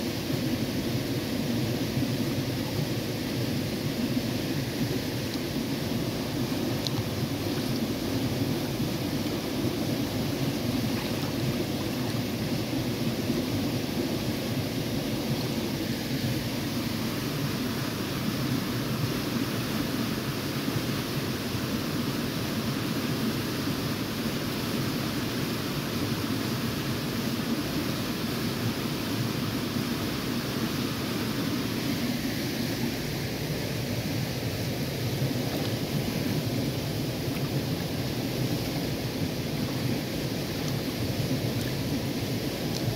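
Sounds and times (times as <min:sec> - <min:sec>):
stream running over stones: 0:00.0 - 0:42.9.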